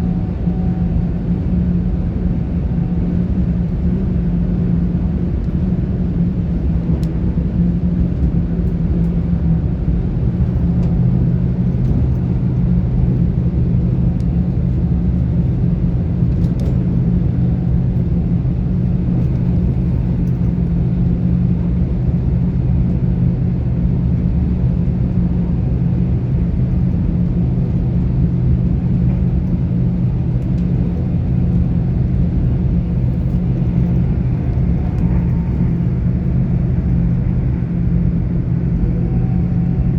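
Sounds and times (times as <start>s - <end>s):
train rumbling from inside carriage: 0.0s - 39.9s.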